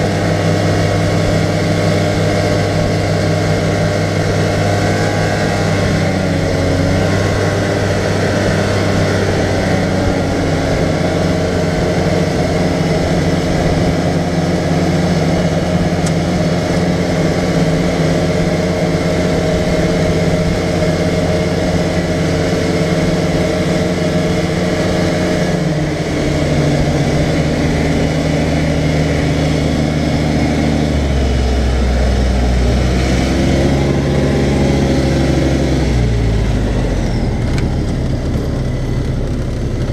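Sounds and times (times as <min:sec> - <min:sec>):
deeper engine rumble: 0:00.0 - 0:39.9
utility vehicle engine running: 0:00.0 - 0:39.9.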